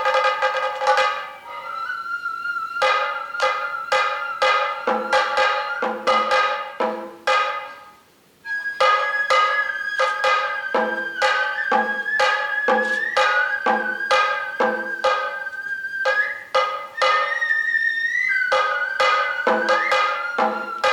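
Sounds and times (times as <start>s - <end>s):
drums struck: 0.0s - 1.4s, 2.8s - 8.0s, 8.8s - 17.4s, 18.5s - 20.9s
bamboo flute: 0.0s - 20.9s.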